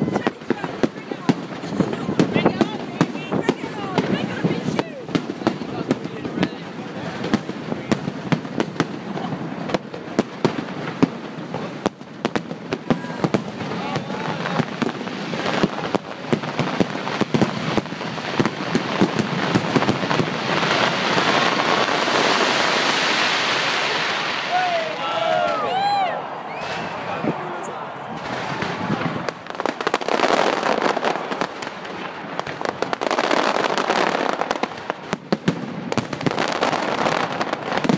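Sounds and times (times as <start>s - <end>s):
fireworks bangs: 0.0s - 37.9s
fireworks crackling: 0.0s - 37.9s.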